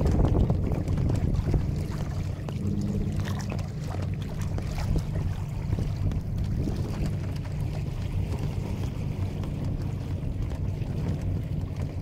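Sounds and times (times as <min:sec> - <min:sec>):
water splashing against kayak hull: 0:00.0 - 0:12.0
wind buffeting microphone: 0:00.0 - 0:12.0.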